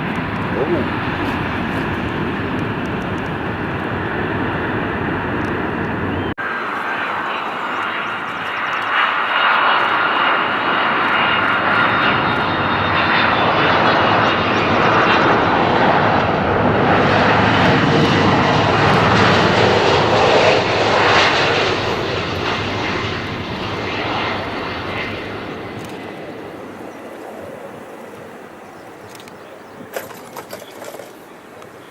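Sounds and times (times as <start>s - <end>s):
jet engines passing by: 0.0s - 31.9s.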